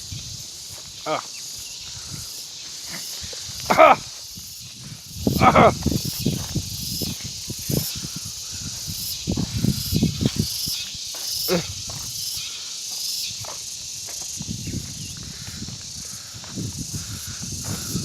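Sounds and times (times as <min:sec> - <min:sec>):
insect hiss: 0:00.0 - 0:18.0.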